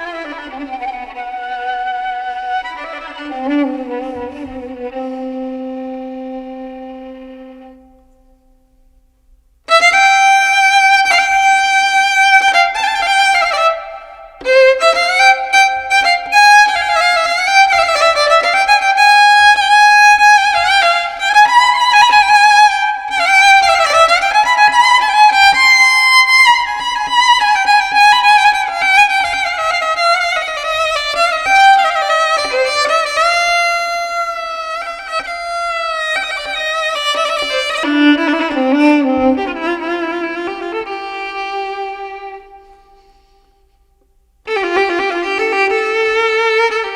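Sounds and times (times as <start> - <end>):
solo violin melody: 0.0 - 8.5, 9.7 - 43.4, 44.4 - 46.9.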